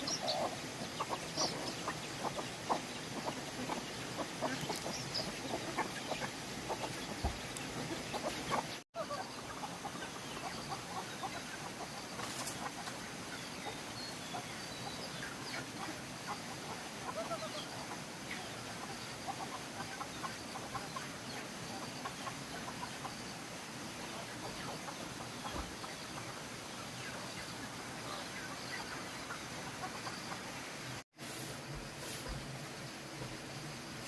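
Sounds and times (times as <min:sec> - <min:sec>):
poultry chirping and clucking: 0:00.0 - 0:33.8
steady hiss: 0:00.0 - 0:34.0.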